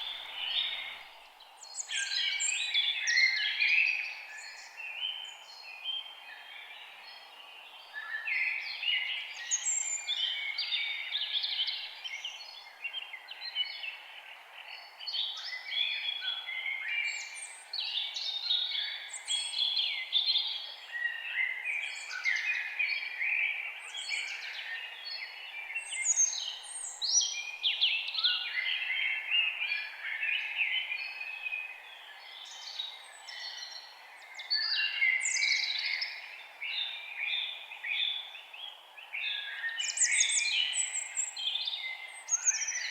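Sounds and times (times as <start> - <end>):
faint steady hiss: 0.0 - 42.6
forest birds chorus: 0.0 - 42.9.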